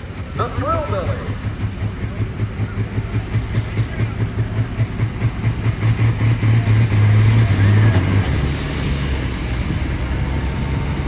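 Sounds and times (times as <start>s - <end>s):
big engine lumpy idle: 0.0s - 11.0s.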